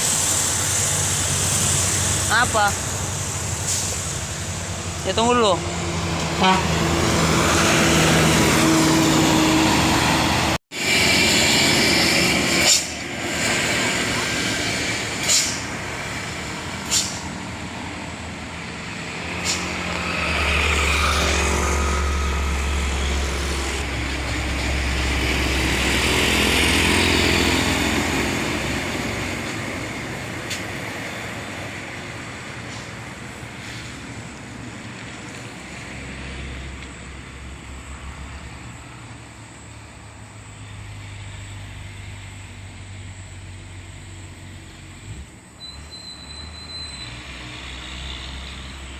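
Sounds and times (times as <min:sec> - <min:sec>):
diesel trucks driving past: 0:00.0 - 0:48.9.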